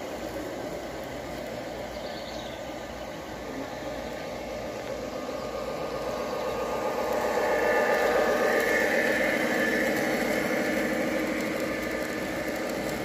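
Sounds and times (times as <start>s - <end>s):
model train running: 0.0s - 13.0s
steady higher whine: 0.0s - 13.0s.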